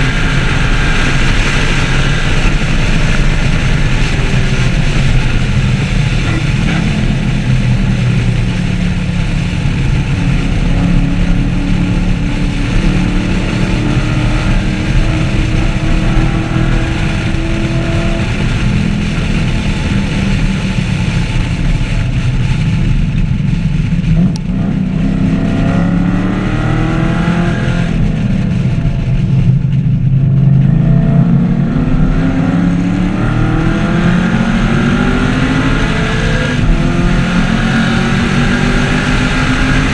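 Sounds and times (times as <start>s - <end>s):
car engine at high revs: 0.0s - 39.9s
wind and road noise: 0.0s - 39.9s.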